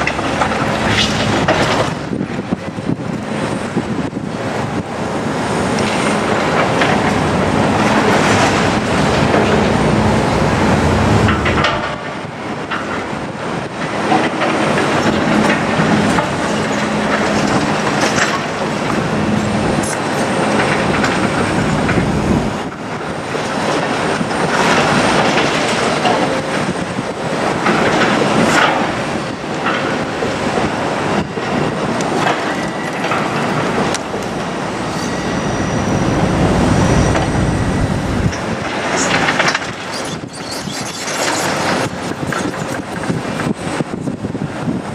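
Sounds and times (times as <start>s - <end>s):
excavator engines running: 0.0s - 44.9s.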